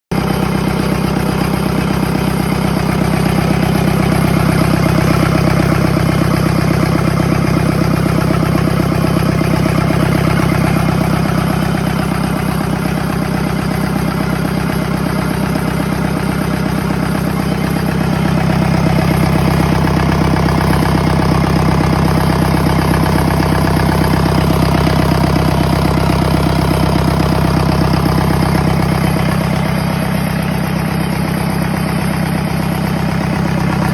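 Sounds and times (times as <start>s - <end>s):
excavator engine idling: 0.1s - 33.9s.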